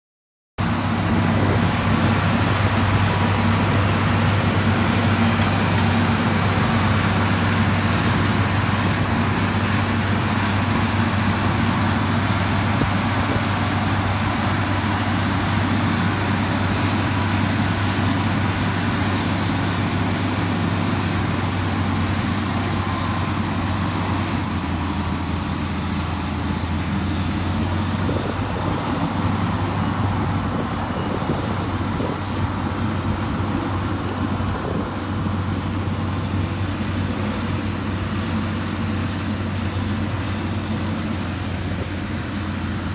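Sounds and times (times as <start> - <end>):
diesel engine droning under load: 0.6 - 42.9
gravel and machine noise: 0.6 - 42.9.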